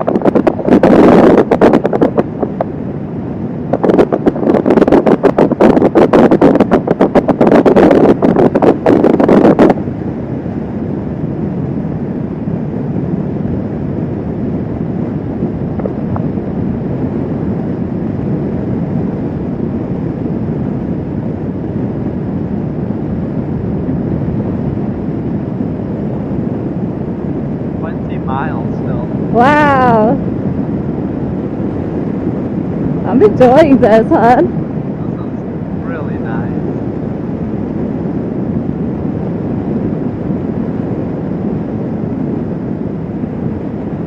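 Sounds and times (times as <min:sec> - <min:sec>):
wind buffeting microphone: 0:00.0 - 0:44.0
wind rushing: 0:00.0 - 0:44.0.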